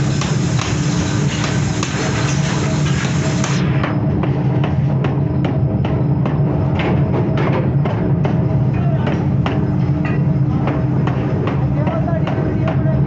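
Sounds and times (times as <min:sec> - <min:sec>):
forging hammer striking steel: 0:00.0 - 0:13.0
machinery humming: 0:00.0 - 0:13.0.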